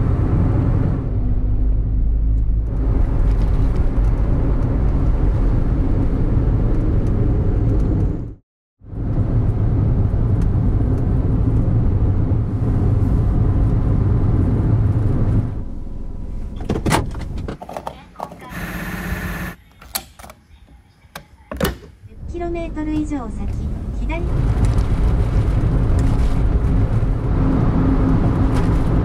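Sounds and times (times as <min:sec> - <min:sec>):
car road and engine rumble: 0:00.0 - 0:19.6, 0:21.9 - 0:29.0.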